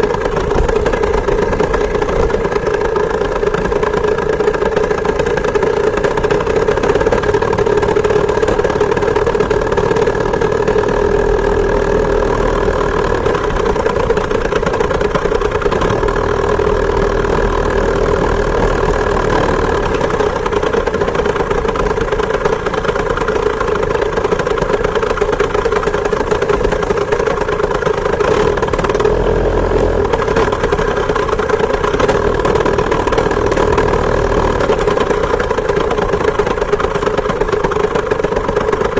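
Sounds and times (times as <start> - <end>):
small two-stroke engine running: 0.0 - 38.9.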